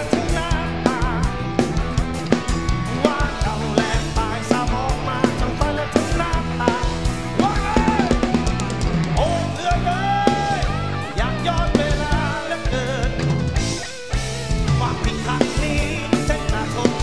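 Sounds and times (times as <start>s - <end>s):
drum kit beat: 0.0s - 17.0s
rock band playing live: 0.0s - 17.0s.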